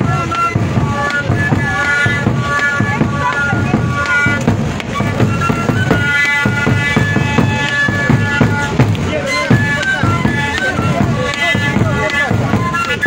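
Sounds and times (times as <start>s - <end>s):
drum beat: 0.0s - 13.0s
end-blown flute melody: 0.0s - 13.0s.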